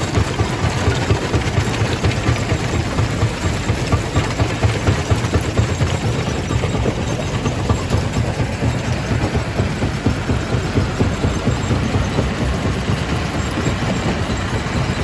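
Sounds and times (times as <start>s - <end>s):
rock crusher rumbling: 0.0s - 15.0s.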